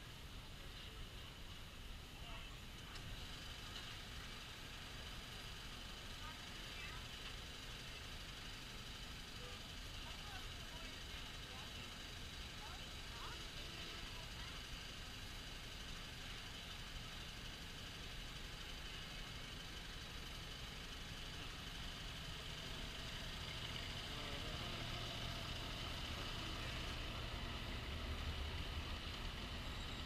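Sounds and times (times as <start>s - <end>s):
miniature train engine running: 0.0s - 30.0s.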